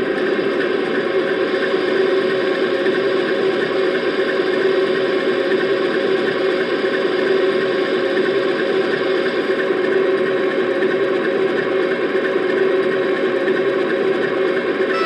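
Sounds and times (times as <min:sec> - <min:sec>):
model train diesel idling sound: 0:00.0 - 0:15.0.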